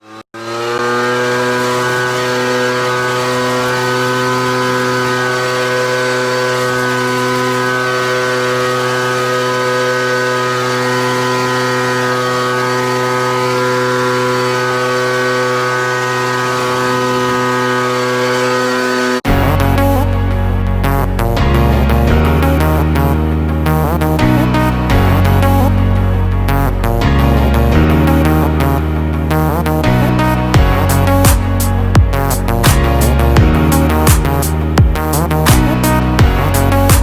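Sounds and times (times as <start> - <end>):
mower engine running: 0.0 - 37.0.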